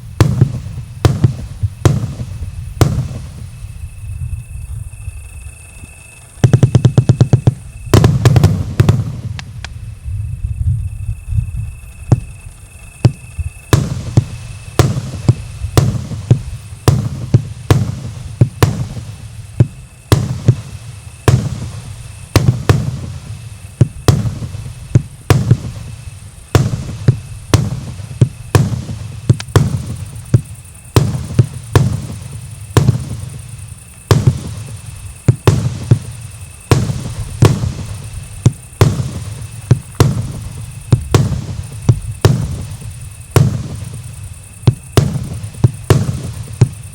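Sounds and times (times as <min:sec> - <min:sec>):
fireworks booming: 0:00.0 - 0:46.9.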